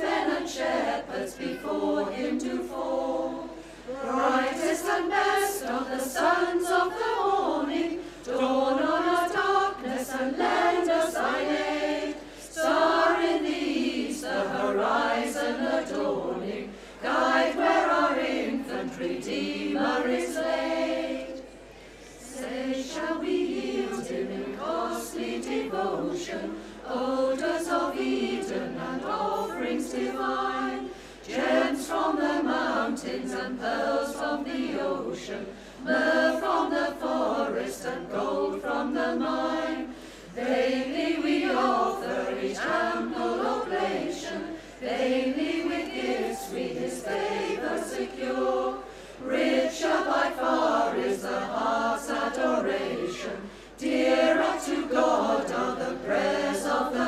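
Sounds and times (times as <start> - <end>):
women's choir singing a cappella: 0.0 - 57.0.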